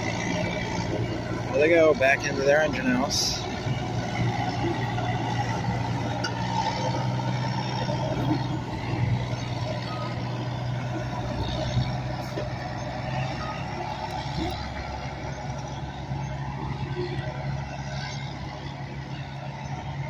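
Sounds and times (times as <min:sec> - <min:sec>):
locomotive engine hum: 0:00.0 - 0:20.0.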